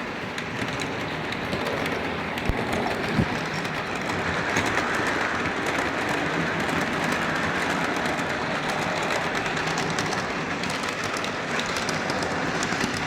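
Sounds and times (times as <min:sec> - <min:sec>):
model train rolling rumble: 0:00.0 - 0:13.0
wheels clicking on rails: 0:00.0 - 0:13.0.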